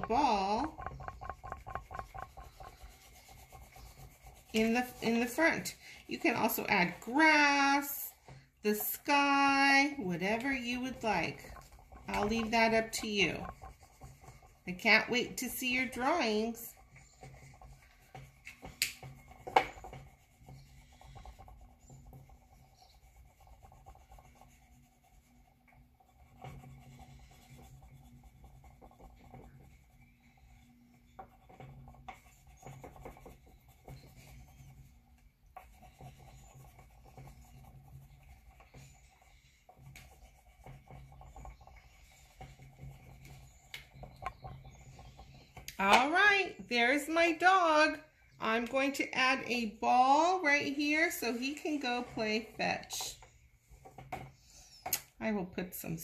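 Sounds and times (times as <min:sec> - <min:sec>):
crayon rubbing on paper: 0:00.0 - 0:46.2.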